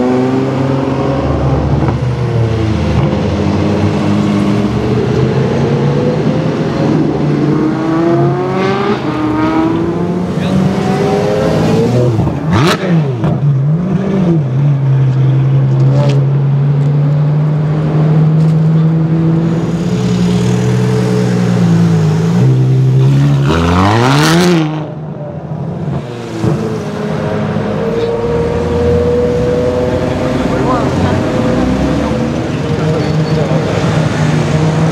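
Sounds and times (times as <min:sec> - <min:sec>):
car engine revving: 0:00.0 - 0:25.0, 0:25.8 - 0:34.9.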